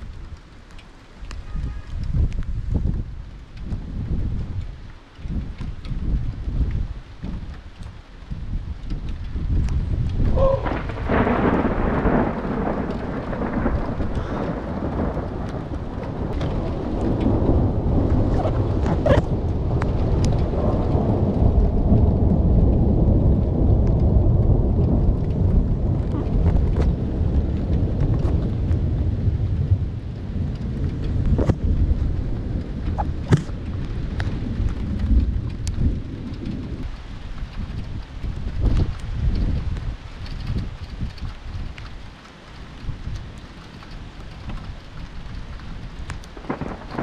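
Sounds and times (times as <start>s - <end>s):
raindrops ticking on surface: 0.0s - 47.0s
steady rain: 0.0s - 47.0s
thunder rumbling: 0.0s - 47.0s.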